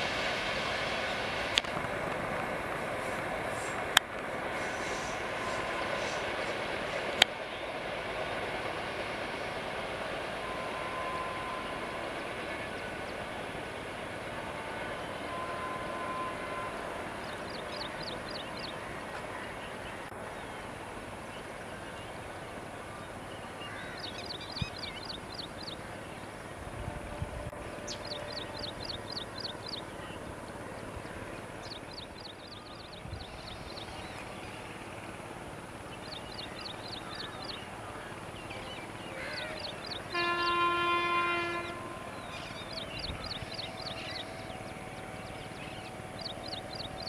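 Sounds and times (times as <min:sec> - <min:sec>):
train running on track: 0:00.0 - 0:47.0.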